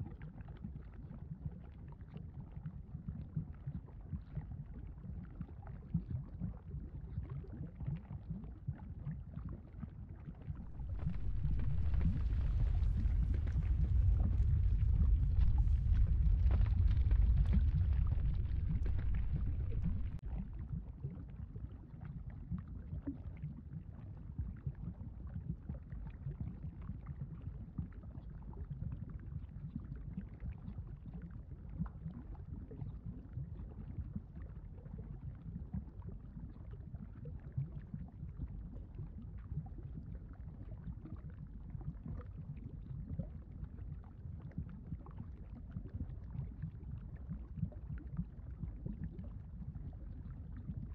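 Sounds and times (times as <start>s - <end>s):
lava bubbling and popping: 0.0s - 50.9s.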